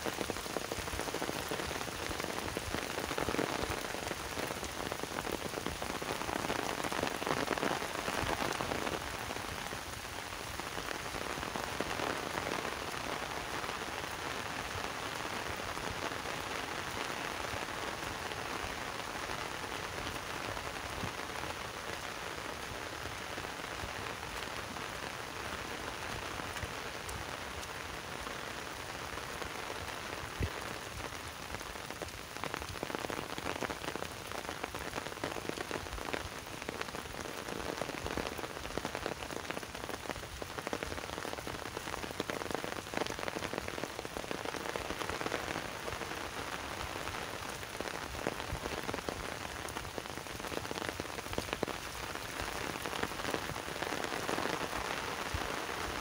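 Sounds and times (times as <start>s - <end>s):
heavy rain on grass: 0.0s - 56.0s.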